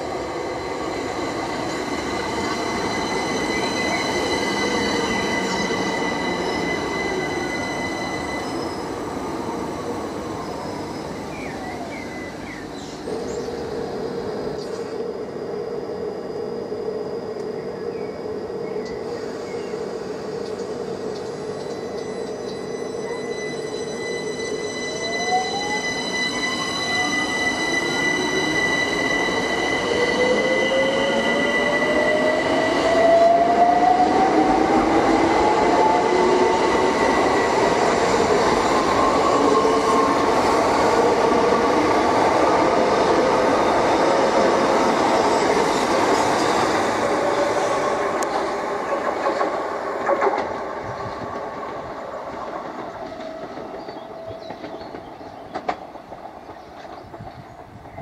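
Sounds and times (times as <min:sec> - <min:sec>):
electric train whine: 0:00.0 - 0:58.0.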